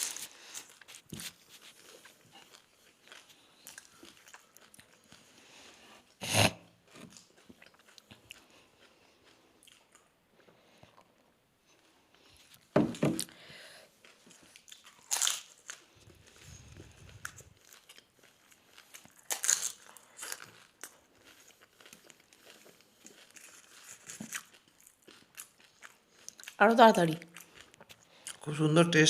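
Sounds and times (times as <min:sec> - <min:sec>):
chewing crisp food: 0:00.0 - 0:12.7, 0:13.8 - 0:28.6.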